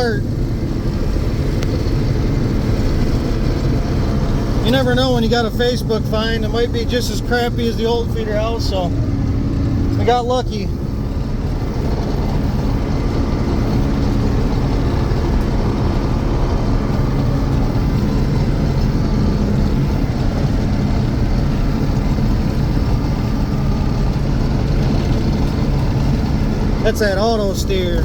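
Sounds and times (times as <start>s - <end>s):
diesel engine drone: 0.0s - 28.0s
machinery rumble: 0.0s - 28.0s.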